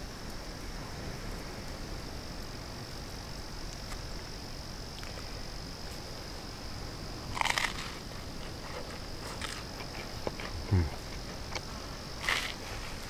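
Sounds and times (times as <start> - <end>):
high trill of insects: 0.0 - 13.0.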